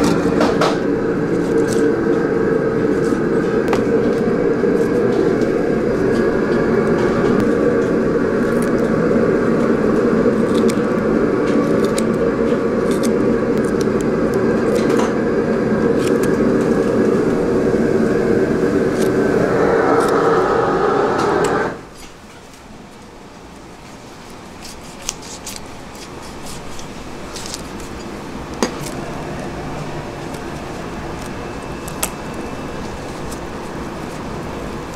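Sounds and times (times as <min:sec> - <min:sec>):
steady machine hum: 0:00.0 - 0:22.1, 0:28.0 - 0:34.9.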